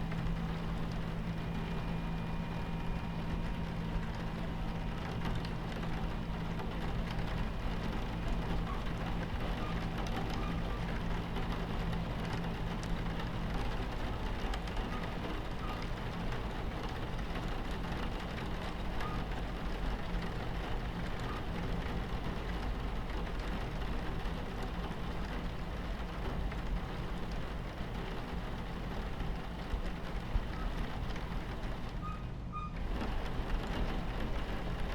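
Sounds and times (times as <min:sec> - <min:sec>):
rain against window: 0:00.0 - 0:34.9
train rumbling on tracks: 0:00.0 - 0:34.9.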